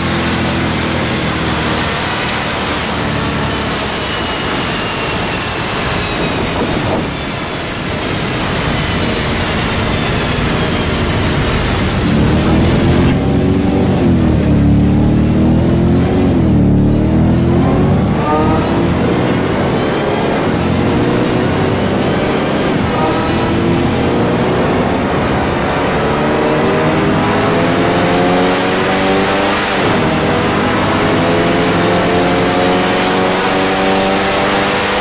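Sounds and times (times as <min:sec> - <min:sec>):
car engine revving: 0:00.0 - 0:35.0
supercharger whine: 0:00.0 - 0:35.0.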